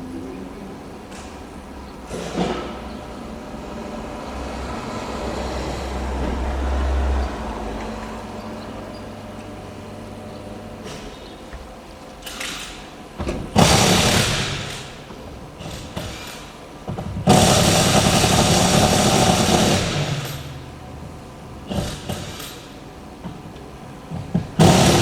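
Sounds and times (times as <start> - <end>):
car engine revving: 1.1 - 11.9, 13.5 - 25.0.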